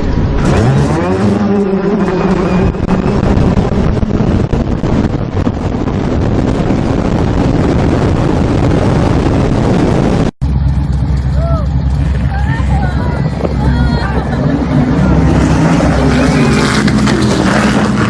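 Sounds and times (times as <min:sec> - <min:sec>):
wind rushing on microphone: 0:00.0 - 0:18.0.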